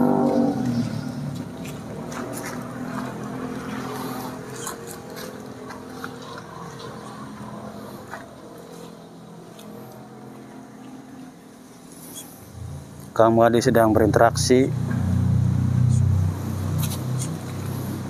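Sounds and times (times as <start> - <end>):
passing vehicle engine: 0.0 - 18.0.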